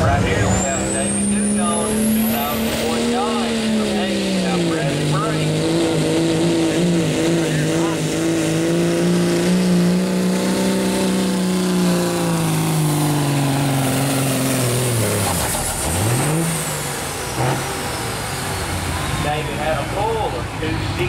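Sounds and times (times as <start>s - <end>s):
diesel engine at full throttle: 0.0s - 21.0s.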